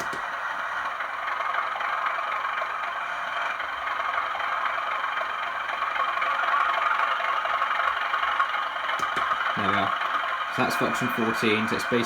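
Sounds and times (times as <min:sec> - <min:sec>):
model locomotive diesel engine sound: 0:00.0 - 0:12.0.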